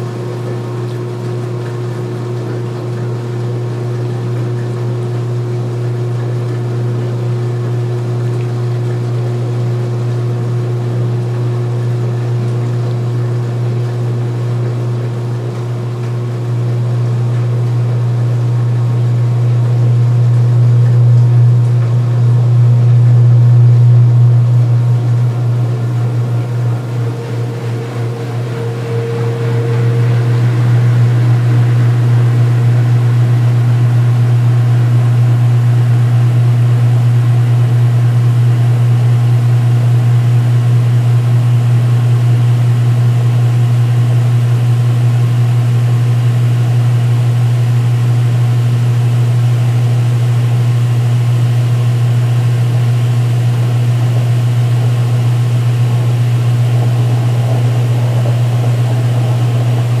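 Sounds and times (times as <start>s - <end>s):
washing machine spinning and draining: 0.0s - 60.0s.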